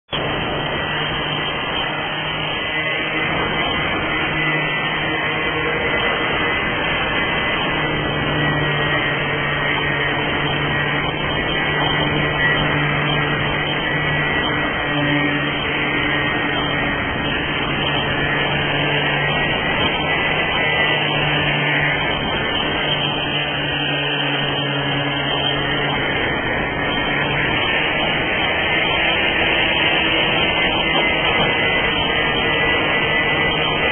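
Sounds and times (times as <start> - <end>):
electric power sander running: 0.1 - 33.9.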